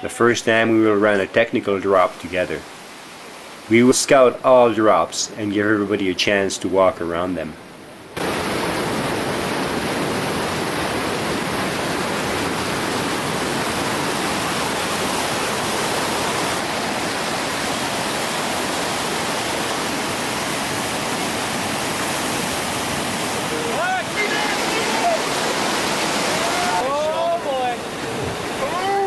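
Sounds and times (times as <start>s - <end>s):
whitewater roaring: 0.0s - 29.0s.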